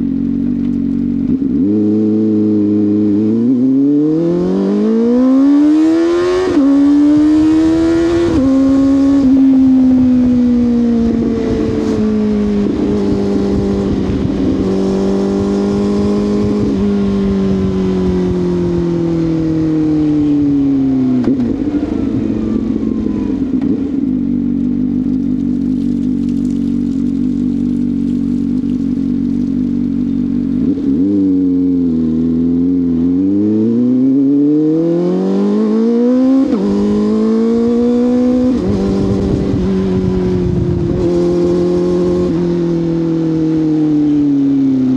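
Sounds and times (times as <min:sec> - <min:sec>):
motorcycle engine accelerating and idling: 0:00.0 - 0:44.9.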